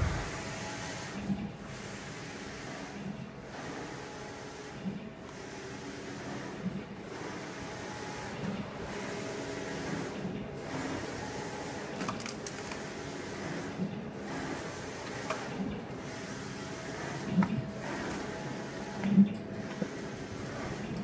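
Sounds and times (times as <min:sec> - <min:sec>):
printer carriage whirring: 0:00.0 - 0:21.0.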